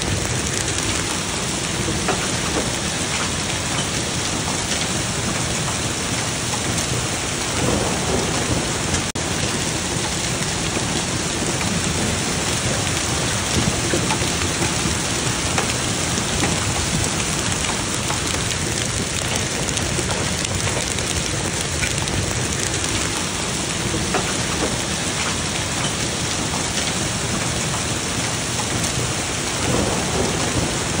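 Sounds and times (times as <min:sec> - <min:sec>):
hail and heavy rain pelting ground: 0:00.0 - 0:31.0.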